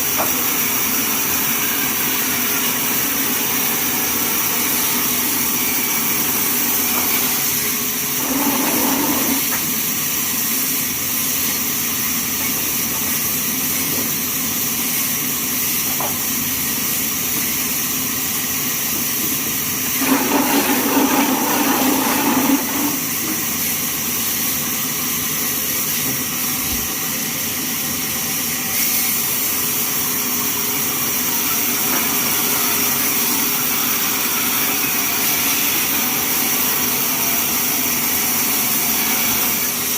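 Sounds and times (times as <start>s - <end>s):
band sawmill hissing: 0.0s - 39.9s.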